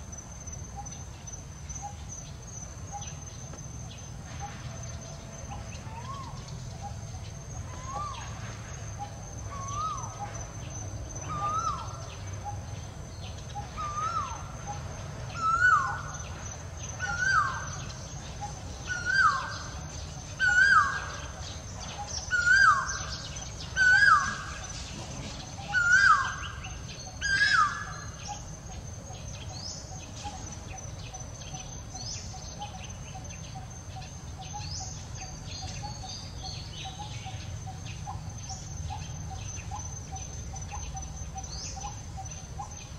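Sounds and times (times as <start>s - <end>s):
bird calling: 2.9s - 42.9s.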